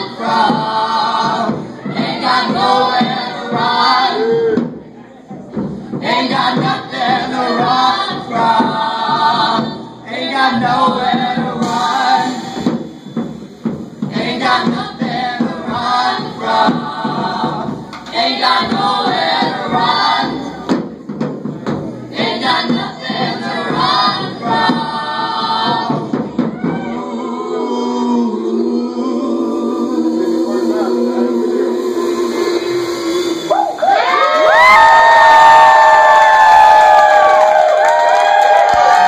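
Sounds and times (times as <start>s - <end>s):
voices singing together: 0.0s - 4.8s, 5.5s - 13.4s, 14.0s - 39.0s.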